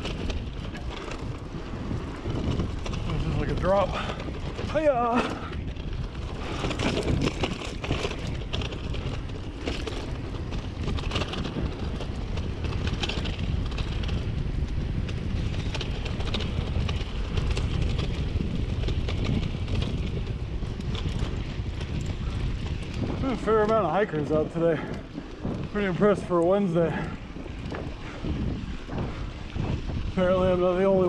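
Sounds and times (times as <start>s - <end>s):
bike clicks and rattles: 0.0s - 31.0s
tyres humming on dirt: 0.0s - 31.0s
wind rumbling on microphone: 0.0s - 31.0s.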